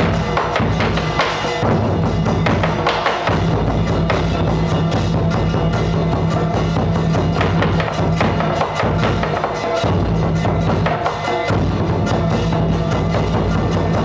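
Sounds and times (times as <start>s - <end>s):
drums: 0.0s - 14.0s.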